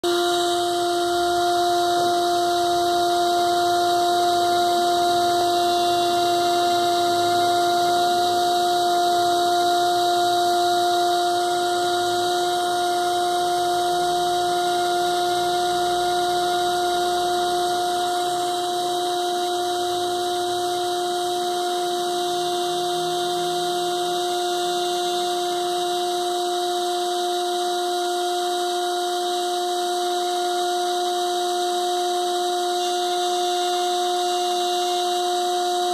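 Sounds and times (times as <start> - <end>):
small motor propeller whine: 0.0 - 35.9.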